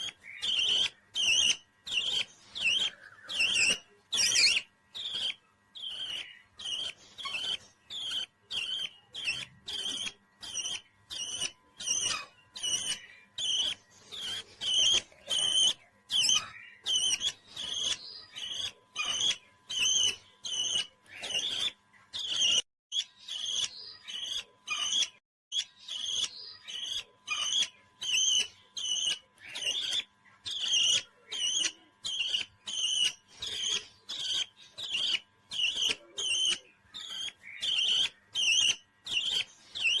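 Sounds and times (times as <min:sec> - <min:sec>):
parrot chirping: 0:00.0 - 0:40.0.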